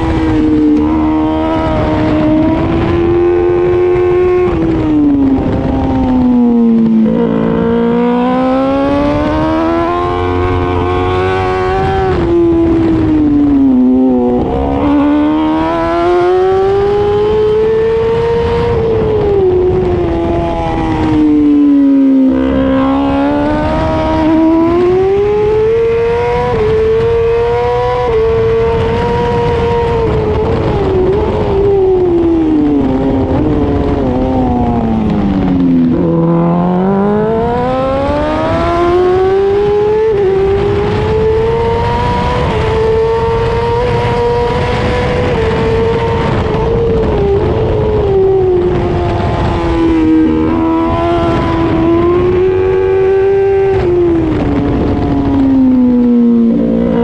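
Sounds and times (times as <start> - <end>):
motorcycle engine at race pace: 0.0 - 57.0
rushing wind: 0.0 - 57.0.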